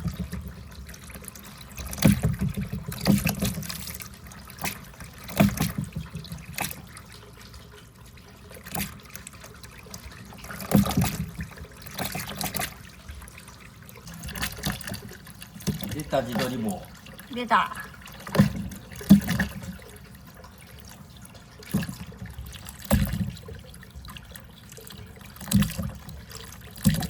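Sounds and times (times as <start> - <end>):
balls knocking and splashing: 0.0 - 27.0
water trickling through chutes: 0.0 - 27.0.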